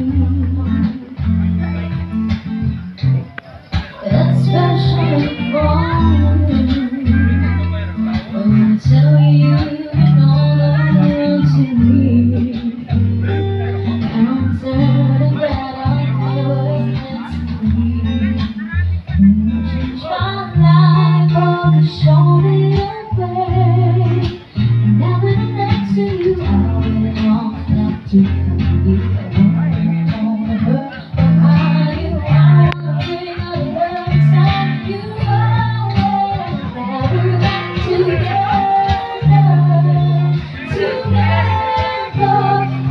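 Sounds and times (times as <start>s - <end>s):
woman singing into microphone: 0.0s - 1.3s, 3.7s - 42.9s
backing track with guitar: 0.0s - 42.9s
held bass notes: 0.0s - 42.9s.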